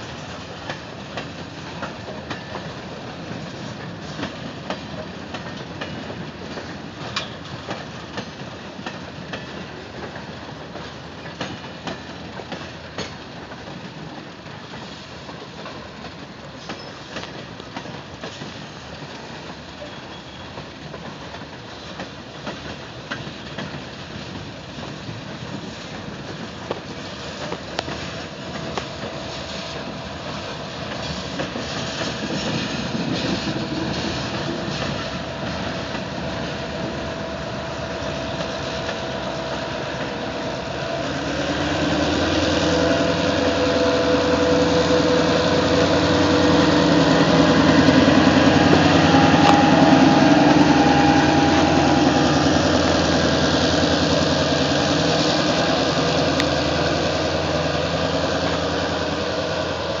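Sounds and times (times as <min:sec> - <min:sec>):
diesel locomotive engine: 0:00.0 - 1:00.0
freight train cars rolling past: 0:00.0 - 1:00.0.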